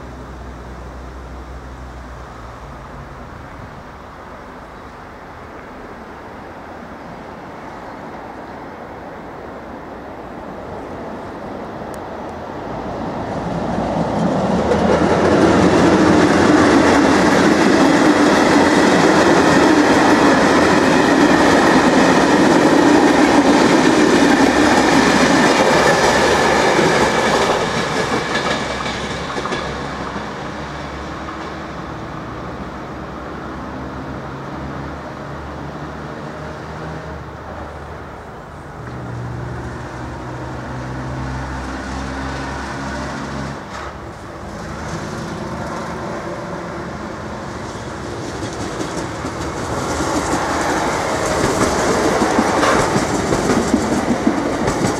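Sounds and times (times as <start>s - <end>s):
train rumble and wheel noise: 0.0s - 54.9s.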